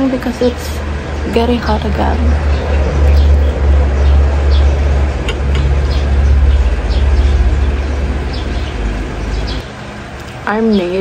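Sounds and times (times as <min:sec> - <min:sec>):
low rumble: 0:00.8 - 0:09.6.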